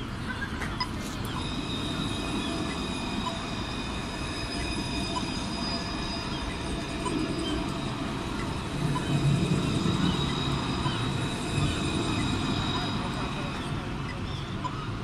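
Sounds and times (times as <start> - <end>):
tram wheels squealing: 0.0 - 15.0.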